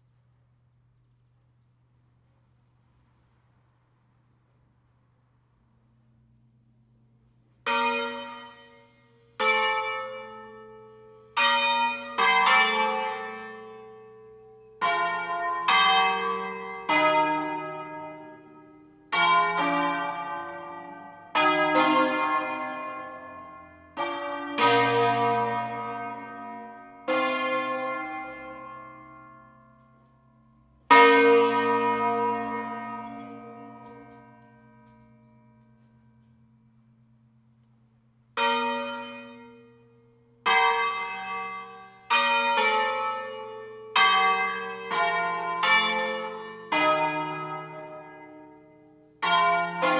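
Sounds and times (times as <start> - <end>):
church bells ringing: 6.0 - 37.6, 38.3 - 49.9.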